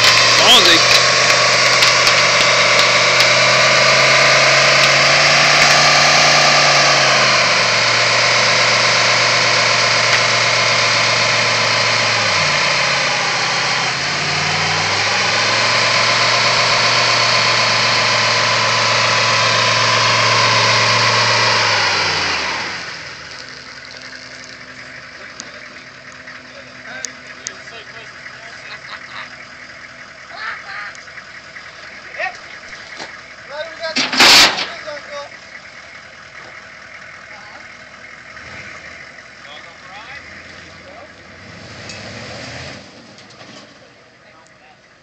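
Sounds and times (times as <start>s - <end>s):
diesel truck engine revving: 0.0s - 45.0s
tires spinning and squealing: 0.0s - 45.0s.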